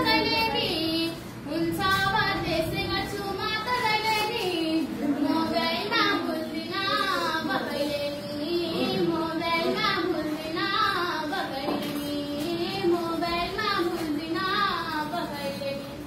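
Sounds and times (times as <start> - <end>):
girl singing folk song: 0.0 - 16.0.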